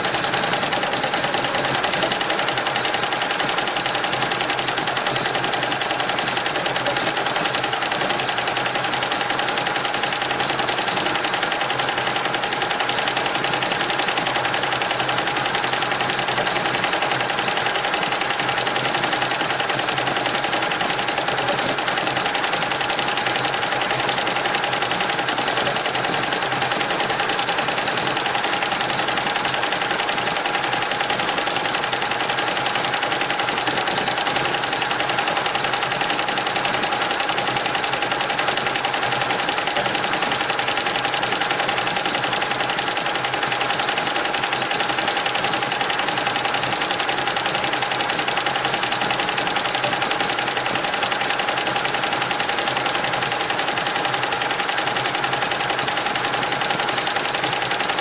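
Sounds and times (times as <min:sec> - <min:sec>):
embroidery machine stitching: 0:00.0 - 0:58.0.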